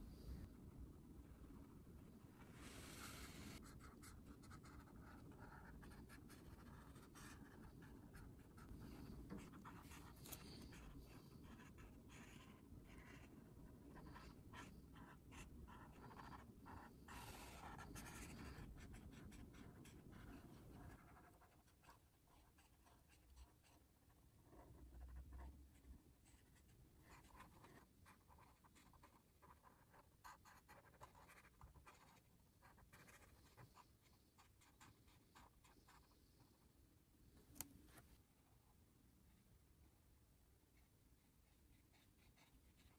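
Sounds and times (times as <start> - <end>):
marker scratching on paper: 2.6 - 36.3, 41.2 - 42.9.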